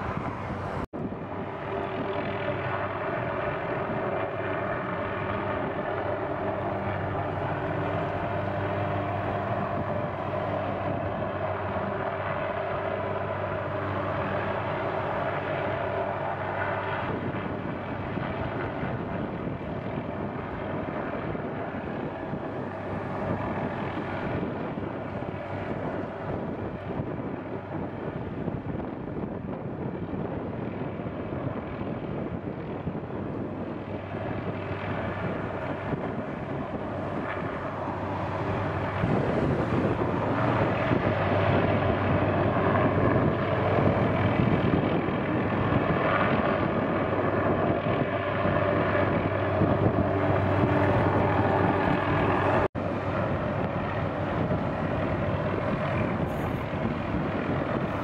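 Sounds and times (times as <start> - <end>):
helicopter hovering: 0.0 - 58.0
wind noise on microphone: 0.0 - 58.0.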